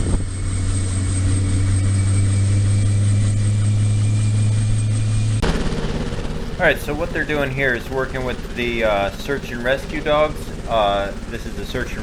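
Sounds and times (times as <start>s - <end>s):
helicopter low drone: 0.0s - 12.0s
high turbine whine: 0.0s - 12.0s.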